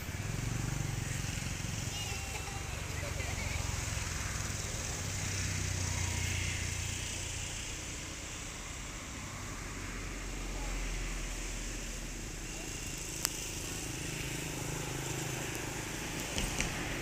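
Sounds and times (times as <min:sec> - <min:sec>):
outdoor background noise: 0:00.0 - 0:17.0
vehicle engine humming: 0:00.0 - 0:17.0.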